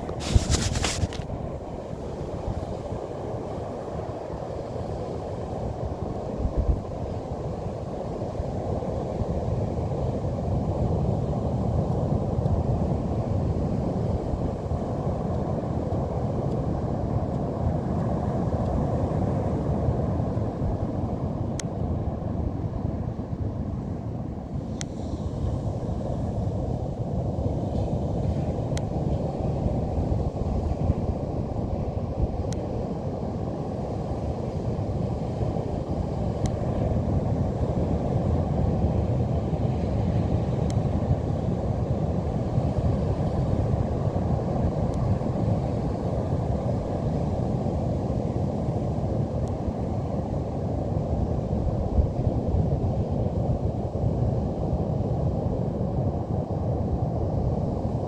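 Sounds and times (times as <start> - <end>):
wind on microphone: 0.0 - 4.4, 5.7 - 58.0.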